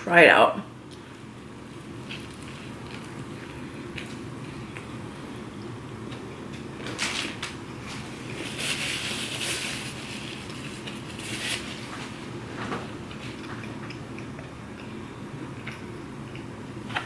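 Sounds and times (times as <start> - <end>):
steady low hum: 0.0 - 17.0
crunchy chewing of sandwich: 0.9 - 17.0.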